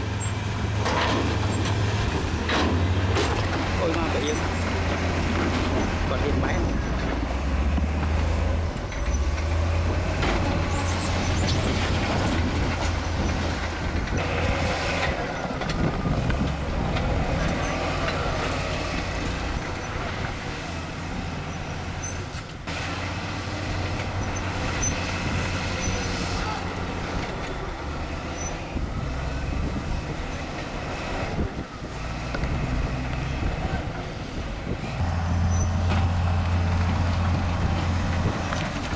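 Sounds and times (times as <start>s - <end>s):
blade and tracks scraping rock: 0.0s - 38.9s
bulldozer diesel engine droning: 0.0s - 38.9s.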